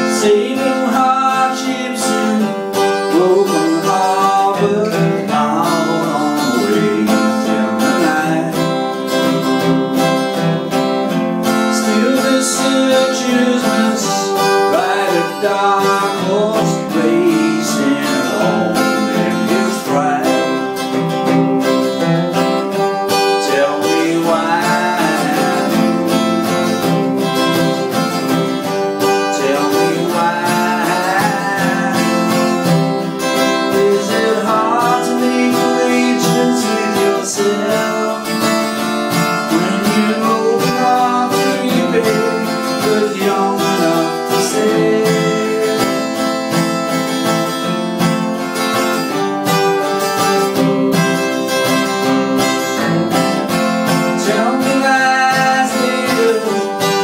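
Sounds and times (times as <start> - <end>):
man singing: 0.0 - 47.9, 48.9 - 57.0
acoustic guitar strumming: 0.0 - 57.0.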